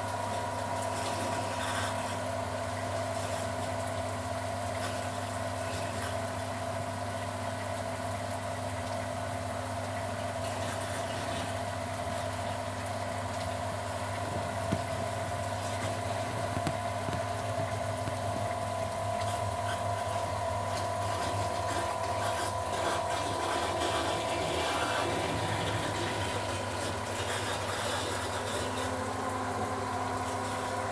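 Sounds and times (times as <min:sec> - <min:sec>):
mechanical hum: 0:00.0 - 0:30.9.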